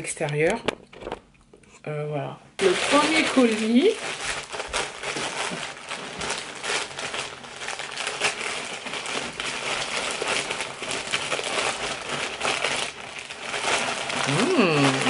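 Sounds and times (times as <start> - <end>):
plastic bag crinkling: 2.6 - 15.0.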